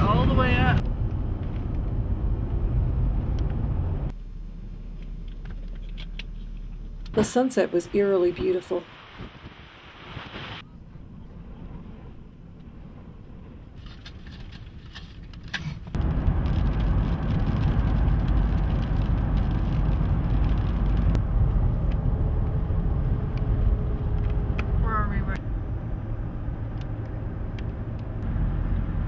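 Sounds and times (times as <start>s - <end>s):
engine and tyre rumble: 0.0s - 7.6s, 9.0s - 29.0s.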